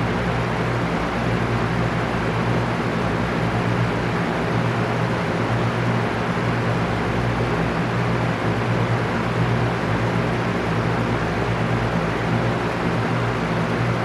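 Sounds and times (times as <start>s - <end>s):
fan air rushing: 0.0s - 14.0s
fan motor hum: 0.0s - 14.0s.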